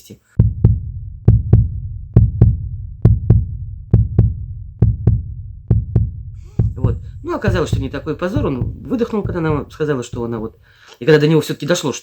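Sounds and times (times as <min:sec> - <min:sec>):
heartbeat thumps: 0:00.4 - 0:11.0.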